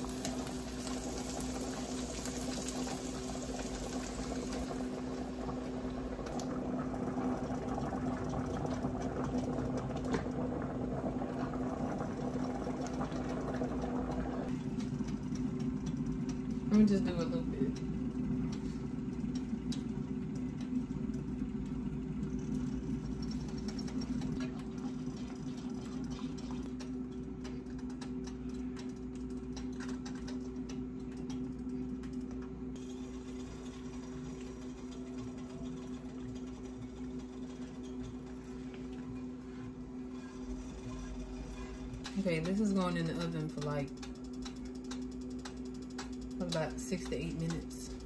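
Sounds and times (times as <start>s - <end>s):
low motor hum: 0.0s - 48.0s.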